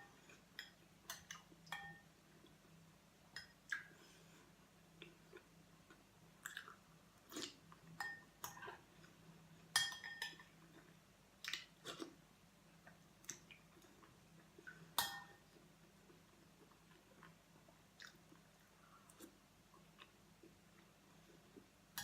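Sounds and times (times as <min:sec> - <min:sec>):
soft chewing and mouth noises: 0:00.0 - 0:22.0.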